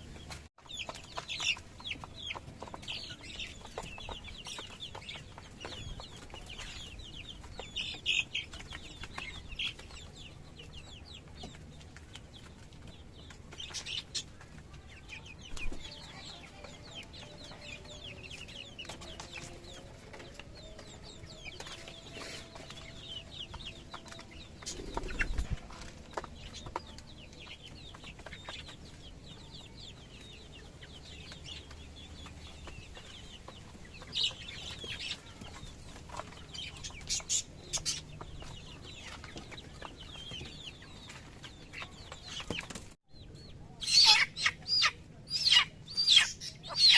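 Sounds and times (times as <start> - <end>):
chickens clucking: 0.0 - 46.9.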